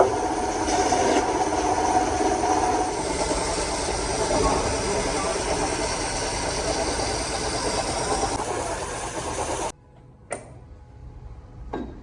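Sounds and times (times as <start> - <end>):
machine running loudly: 0.0 - 9.7.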